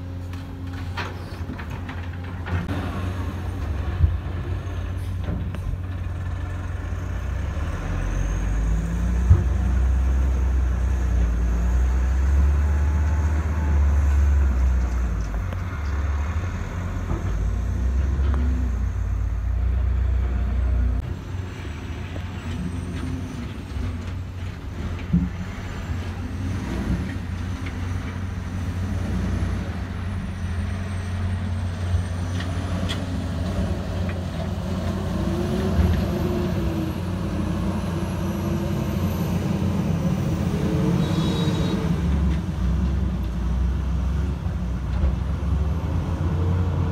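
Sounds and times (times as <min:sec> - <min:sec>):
diesel truck engine rumbling: 0:00.0 - 0:46.9
truck engine climbing slope: 0:00.0 - 0:46.9.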